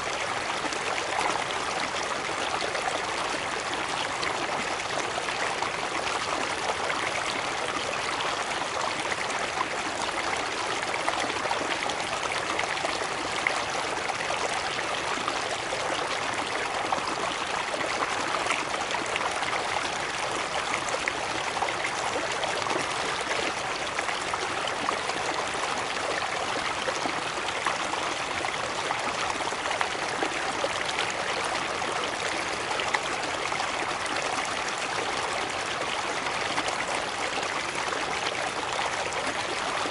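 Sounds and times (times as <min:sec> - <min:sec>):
water flowing over a small cascade: 0:00.0 - 0:39.9.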